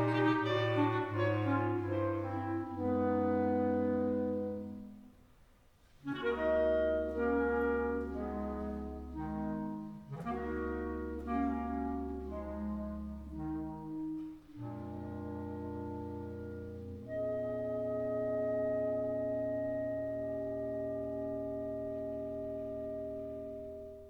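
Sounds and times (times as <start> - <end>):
clarinet choir playing chords: 0.0 - 5.2, 6.0 - 24.0.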